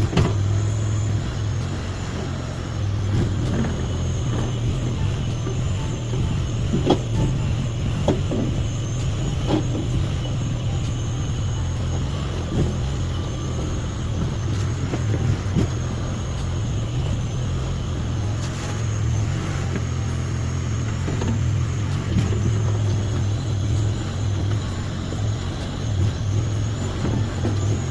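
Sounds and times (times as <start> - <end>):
faint high whine: 0.0 - 27.9
small engine running: 0.0 - 27.9.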